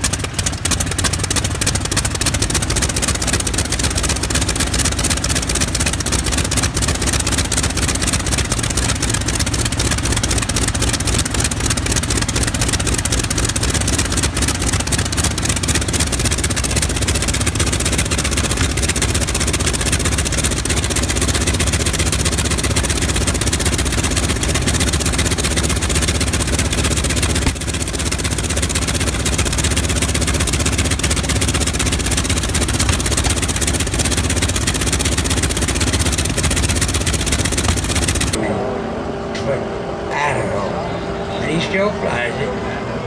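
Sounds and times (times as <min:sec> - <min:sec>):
radial aircraft engine running: 0:00.0 - 0:43.0.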